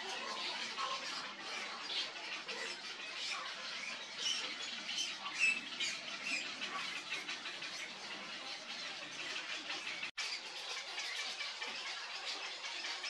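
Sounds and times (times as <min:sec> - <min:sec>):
birds squawking and chirping: 0:00.0 - 0:13.0.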